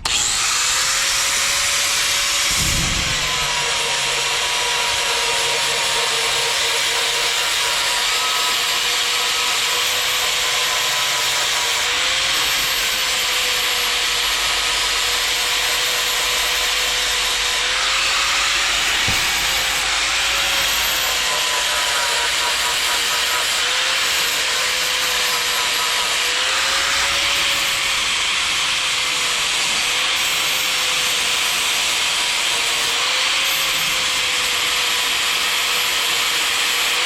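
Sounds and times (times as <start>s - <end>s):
electric grinder grinding metal: 0.0s - 37.0s.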